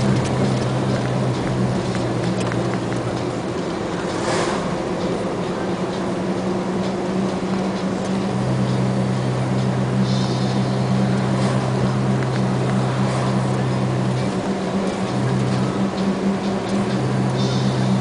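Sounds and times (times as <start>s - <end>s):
vehicle engine and tyre drone: 0.0s - 18.0s.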